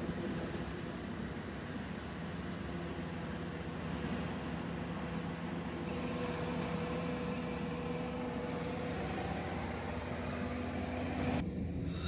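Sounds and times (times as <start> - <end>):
loader engine running: 0.0 - 12.0.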